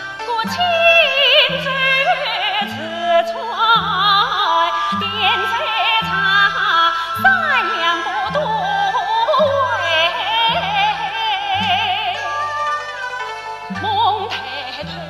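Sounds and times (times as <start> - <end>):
woman singing opera with vibrato: 0.0 - 13.0, 13.7 - 15.0.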